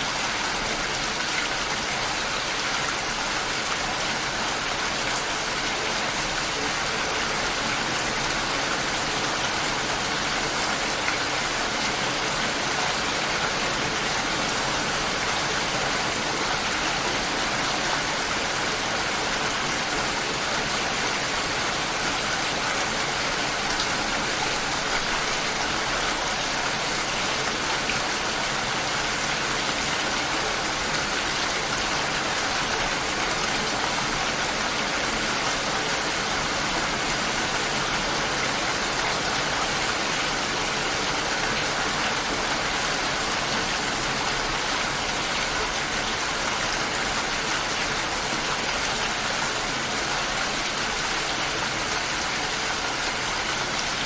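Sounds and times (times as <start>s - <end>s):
light rain patter: 0.0s - 54.0s.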